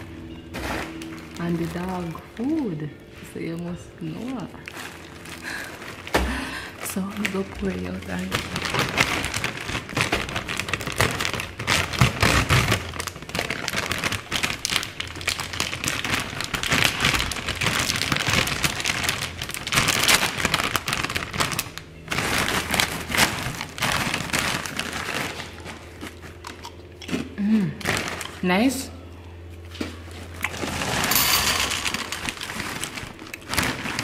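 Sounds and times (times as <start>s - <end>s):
plastic bags crinkling: 0.0s - 28.8s, 29.4s - 34.0s.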